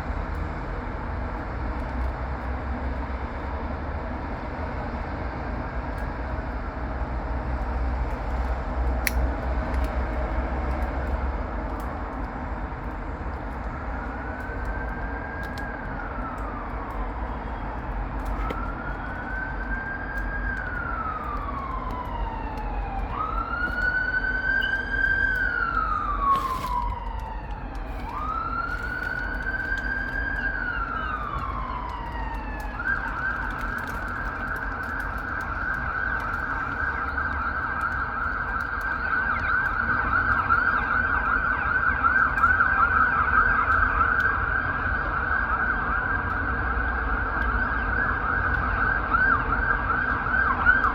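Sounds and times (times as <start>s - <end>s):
emergency vehicle siren: 0.0s - 50.9s
road traffic rumble: 0.0s - 50.9s.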